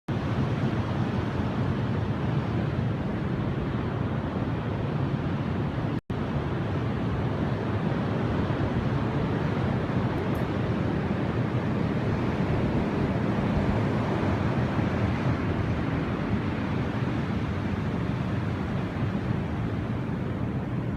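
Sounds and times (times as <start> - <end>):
blizzard wind buffeting microphone: 0.1 - 20.9.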